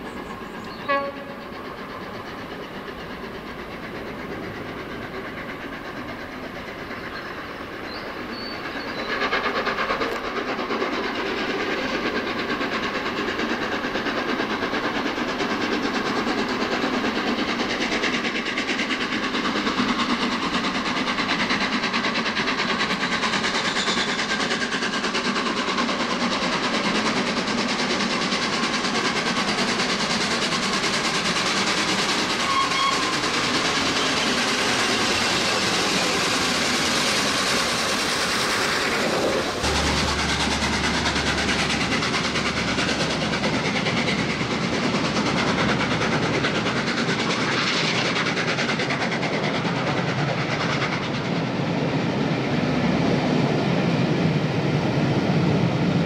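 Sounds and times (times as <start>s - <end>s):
steam locomotive heavy exhaust: 0.0s - 56.0s.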